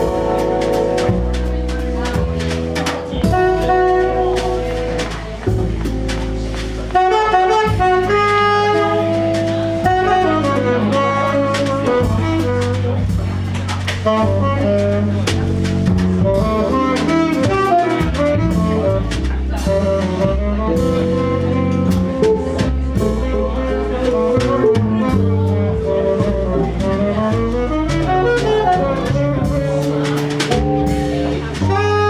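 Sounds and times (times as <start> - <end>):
bass notes: 0.0 - 32.0
saxophone melody: 0.0 - 32.0.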